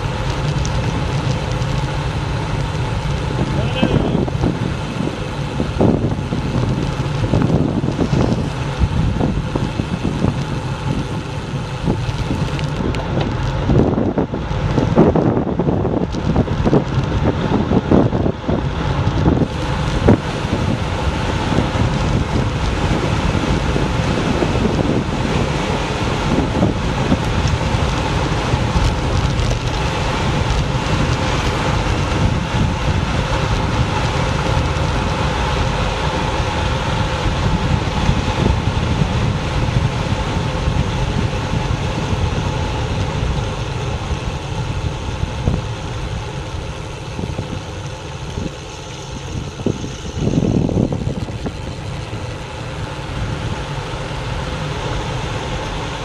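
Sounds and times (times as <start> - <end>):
bicycle knocks and rattles: 0.0 - 54.0
tyre and road noise: 0.0 - 56.0
wind rushing over microphone: 0.0 - 56.0.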